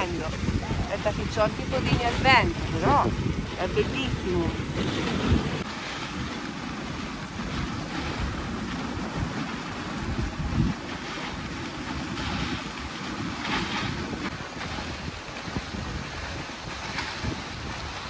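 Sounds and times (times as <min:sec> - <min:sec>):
sled runners gliding on snow: 0:00.0 - 0:18.0
wind buffeting microphone: 0:00.0 - 0:18.0.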